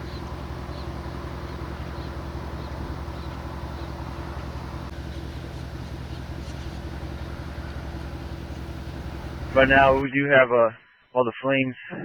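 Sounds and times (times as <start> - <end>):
large engine idling: 0.0 - 10.0.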